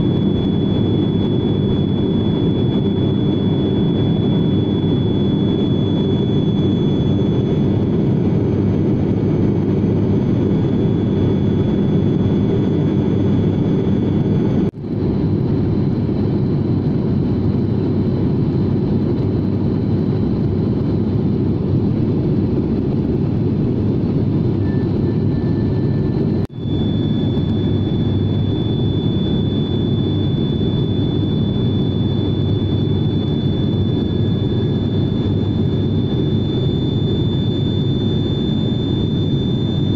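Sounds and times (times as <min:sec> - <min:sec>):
airliner cabin engine drone: 0:00.0 - 0:39.9
high whine: 0:00.0 - 0:39.9.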